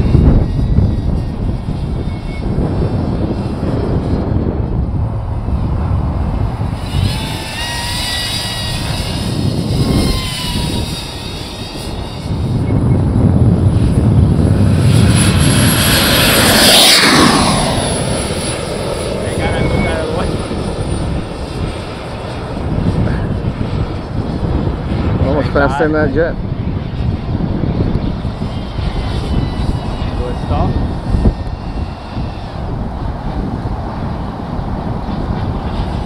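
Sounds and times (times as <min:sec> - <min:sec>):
model plane motor whine: 0:00.0 - 0:36.0.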